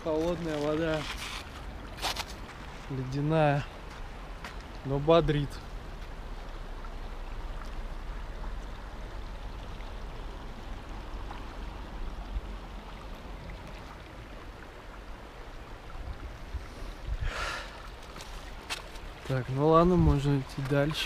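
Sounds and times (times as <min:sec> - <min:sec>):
river water flowing over rocks: 0:00.0 - 0:21.0.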